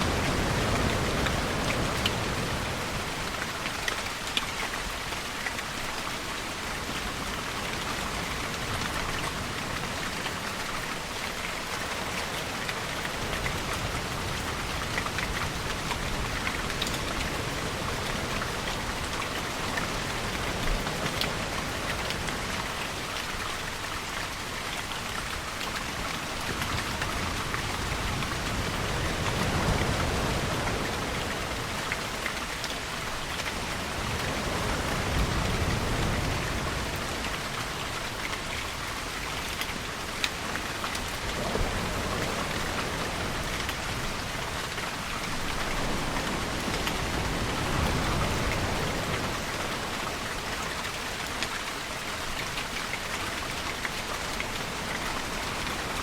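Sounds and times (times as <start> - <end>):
steady rain on surfaces: 0.0 - 56.0.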